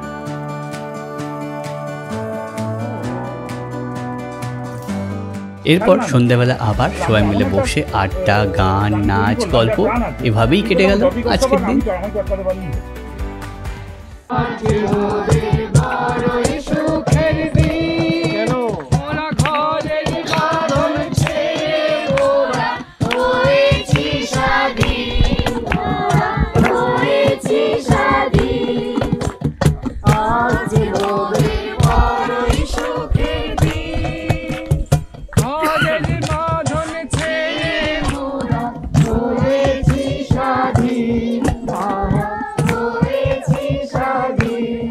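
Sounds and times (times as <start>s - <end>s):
group of voices singing: 5.7s - 11.9s, 14.3s - 44.9s
percussive beat: 5.7s - 44.9s.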